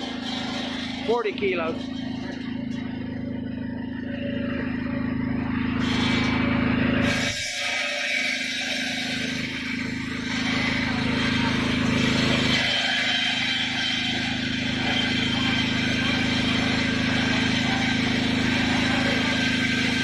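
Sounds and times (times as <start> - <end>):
circular saw whirring: 0.0 - 20.0
sawmill engine humming: 0.0 - 20.0.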